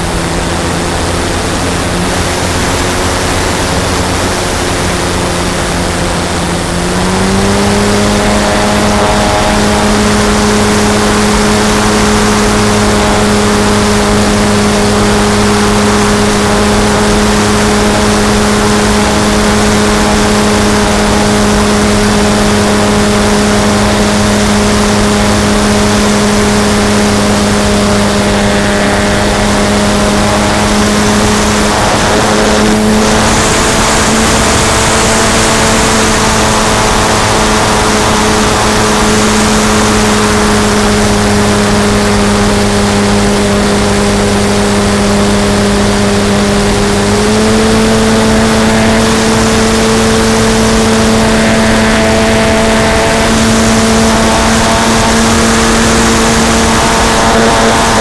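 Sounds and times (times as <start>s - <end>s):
model airplane motor: 0.0s - 58.0s
wind on microphone: 0.0s - 58.0s.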